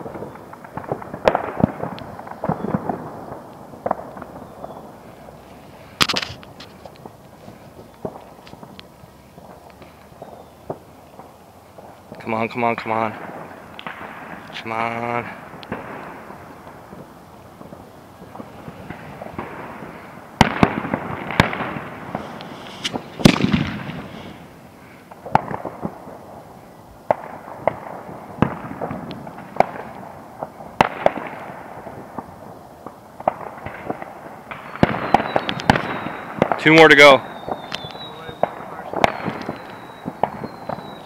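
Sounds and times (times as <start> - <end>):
fireworks banging: 0.0 - 41.0
steady background hiss: 0.0 - 41.0.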